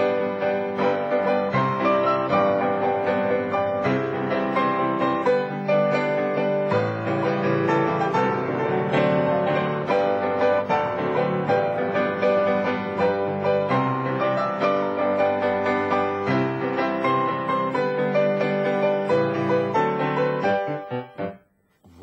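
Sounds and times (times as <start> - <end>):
solo piano waltz: 0.0 - 21.4.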